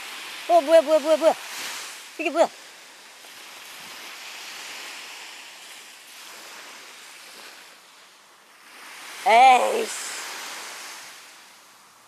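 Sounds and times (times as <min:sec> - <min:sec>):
waves washing on a beach: 0:00.0 - 0:12.0.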